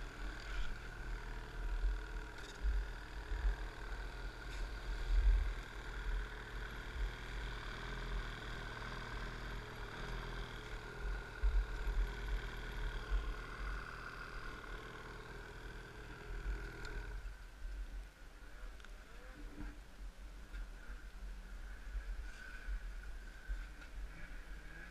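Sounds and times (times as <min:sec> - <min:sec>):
snowmobile engine idling: 0:00.0 - 0:17.6, 0:20.4 - 0:24.9.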